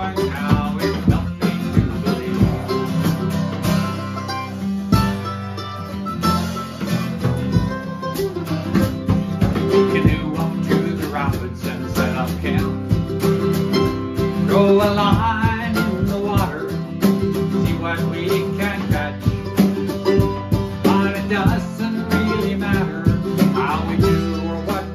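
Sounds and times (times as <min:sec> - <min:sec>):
light drum kit beat: 0:00.0 - 0:24.9
picked mandolin: 0:00.0 - 0:24.9
strummed acoustic guitar: 0:00.0 - 0:24.9.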